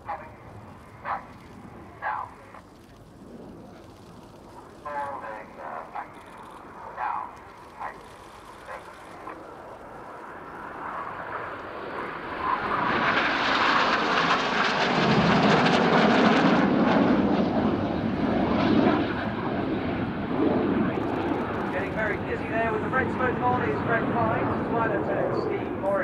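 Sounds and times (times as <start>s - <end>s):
deep jet rumble: 0.0s - 26.0s
jets flying past: 0.0s - 26.0s.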